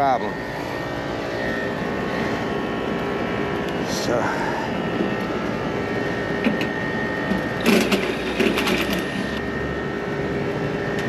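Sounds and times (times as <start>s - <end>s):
air conditioning units humming: 0.0s - 11.0s.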